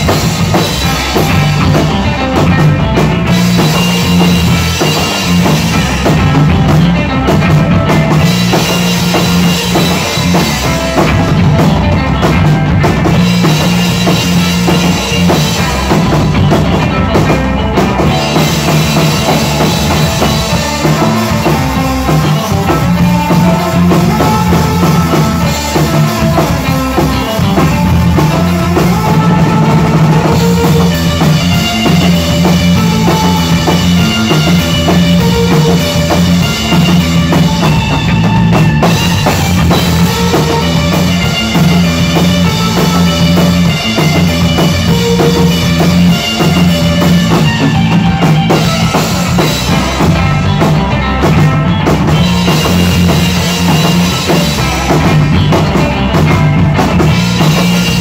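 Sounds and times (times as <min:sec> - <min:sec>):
bass drum: 0:00.0 - 0:58.0
bass guitar: 0:00.0 - 0:58.0
electric guitar: 0:00.0 - 0:58.0.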